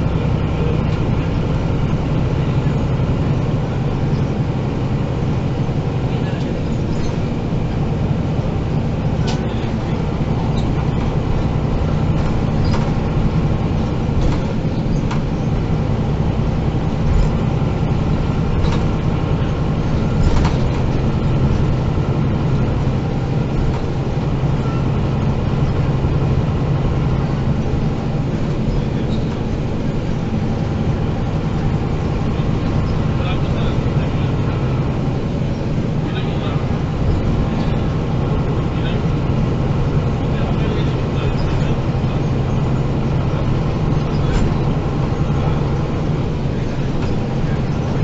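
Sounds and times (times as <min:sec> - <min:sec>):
bus diesel engine humming: 0:00.0 - 0:48.0
bus body knocks and rattles: 0:00.7 - 0:48.0.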